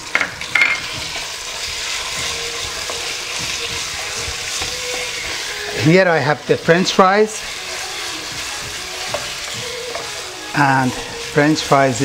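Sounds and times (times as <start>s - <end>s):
food frying sizzle: 0.0s - 12.0s.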